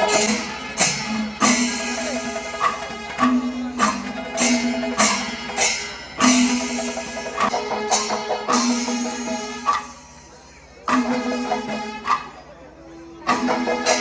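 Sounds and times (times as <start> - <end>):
sharp percussion strikes: 0.0 - 14.0.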